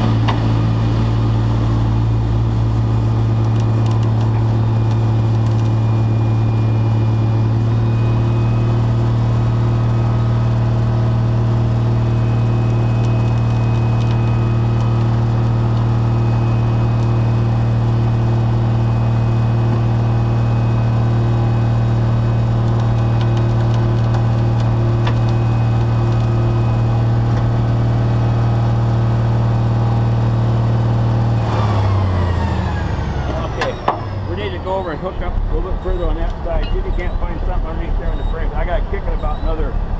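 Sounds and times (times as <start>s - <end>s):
heavy truck engine running: 0.0s - 39.9s
faint winch whine: 1.3s - 39.9s.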